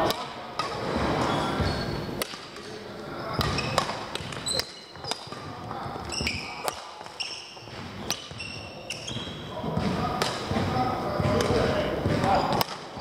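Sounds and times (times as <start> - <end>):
rackets hitting shuttlecocks: 0.0 - 13.0
shoes squeaking on court floor: 0.6 - 13.0.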